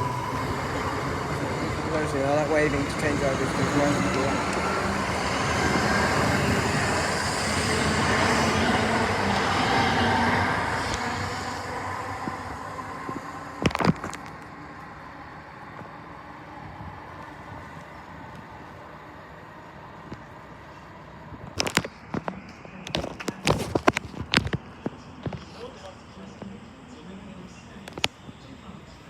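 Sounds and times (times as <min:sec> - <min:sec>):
train rumble and rail noise: 0:00.0 - 0:29.0.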